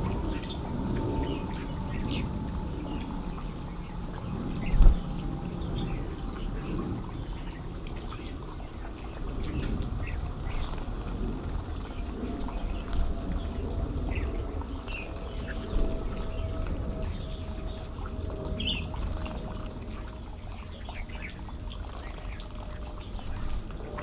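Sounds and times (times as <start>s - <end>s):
birds splashing water: 0.0s - 24.0s
low rumble: 0.0s - 24.0s.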